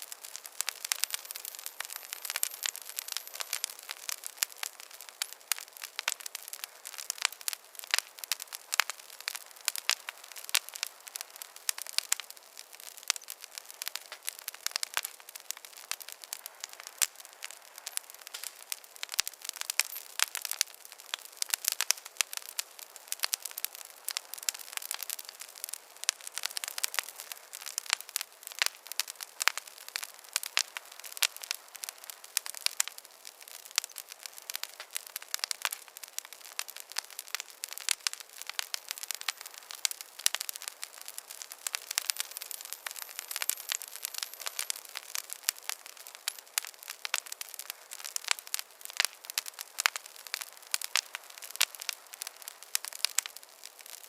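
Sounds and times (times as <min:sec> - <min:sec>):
faint hiss: 0:00.0 - 0:54.0
wood fire crackling: 0:00.0 - 0:54.0.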